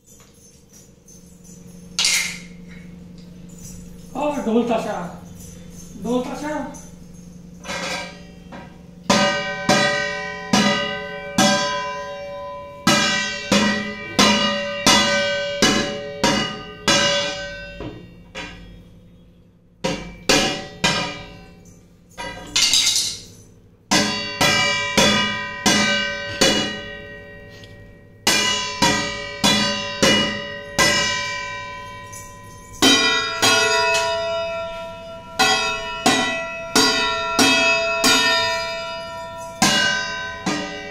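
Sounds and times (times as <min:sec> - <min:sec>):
spatula striking ringing steel vessels: 0:00.0 - 0:40.9.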